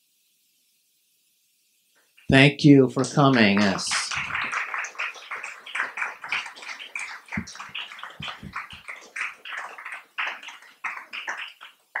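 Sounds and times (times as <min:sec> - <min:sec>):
audience clapping: 0:02.2 - 0:12.0.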